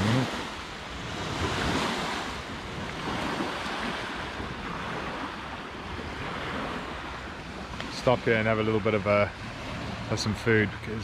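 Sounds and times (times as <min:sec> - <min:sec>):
small waves lapping on a beach: 0:00.0 - 0:11.0
wind: 0:00.0 - 0:11.0.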